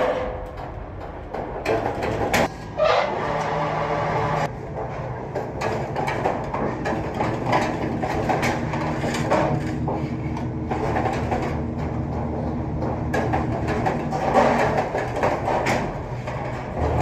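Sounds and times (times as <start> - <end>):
sheet metal clicks and clanks: 0.0 - 2.7, 4.4 - 17.0.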